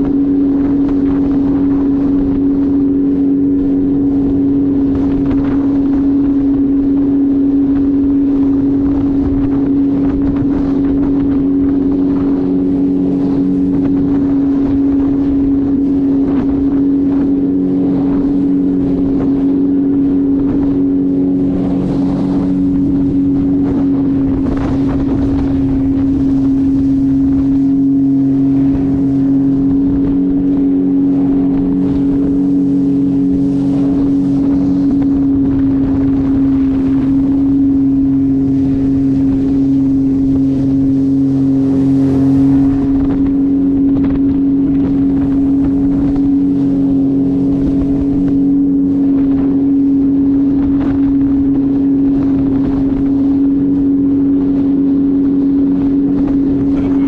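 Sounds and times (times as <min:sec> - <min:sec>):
jet ski engine droning: 0:00.0 - 0:57.0
wind buffeting microphone: 0:00.0 - 0:57.0.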